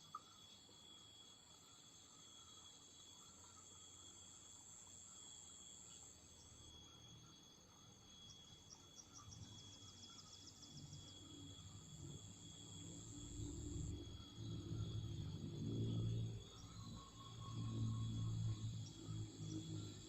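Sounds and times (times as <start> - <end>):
insects trilling: 0.0 - 20.0
ticking insect chirps: 0.0 - 20.0.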